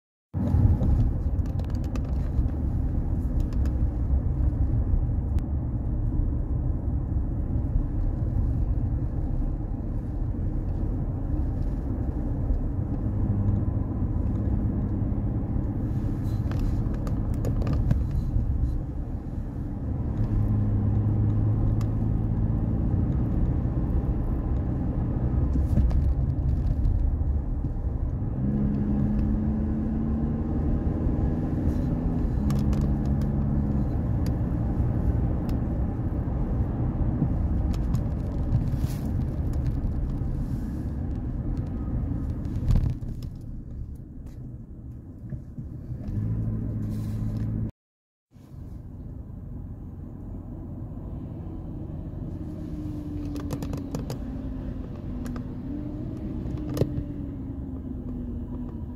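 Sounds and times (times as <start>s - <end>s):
road and engine rumble in car: 0.2s - 58.9s
engine hum: 0.4s - 47.7s, 48.4s - 58.9s.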